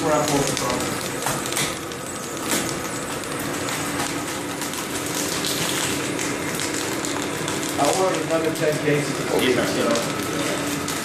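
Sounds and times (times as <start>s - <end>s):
extruder motor humming: 0.0s - 11.0s.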